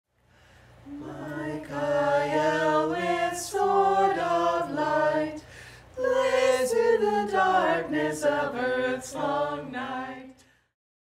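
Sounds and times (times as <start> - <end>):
unaccompanied voices singing in harmony: 0.8 - 10.5.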